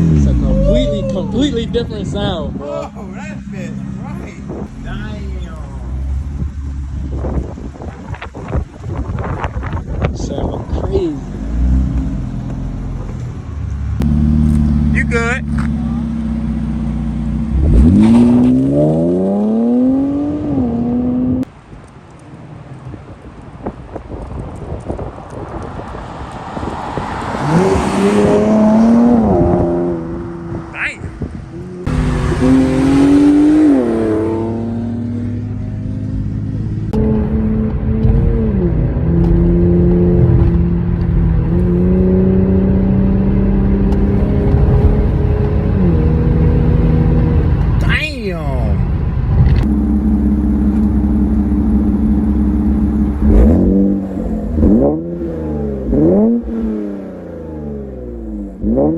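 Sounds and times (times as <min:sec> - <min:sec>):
car engine idling and revving: 0:00.0 - 0:58.9.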